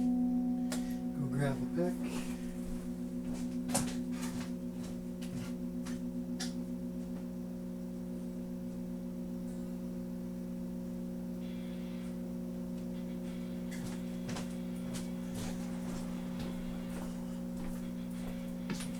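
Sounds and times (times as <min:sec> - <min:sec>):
guitar amplifier hum and buzz: 0:00.0 - 0:18.9.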